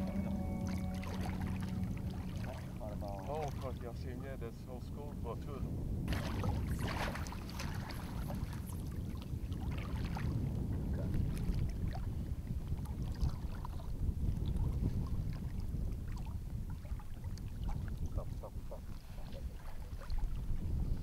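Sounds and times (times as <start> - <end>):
wind rumbling on microphone: 0.0 - 21.0
small water splashes and trickles: 0.6 - 4.4, 6.1 - 21.0.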